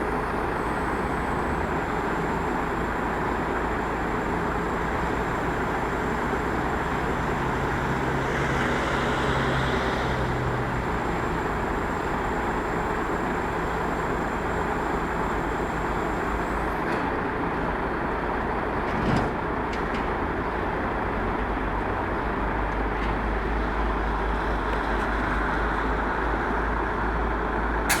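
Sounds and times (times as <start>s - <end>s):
crane engine running: 0.0s - 28.0s.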